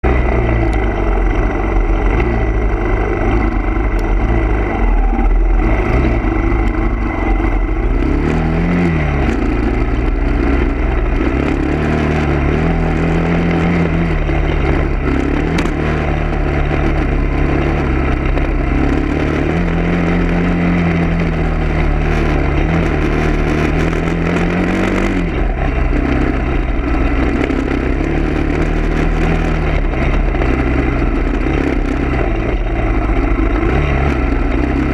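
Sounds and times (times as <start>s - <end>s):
low road rumble: 0.0s - 34.9s
vehicle engine running: 0.0s - 34.9s.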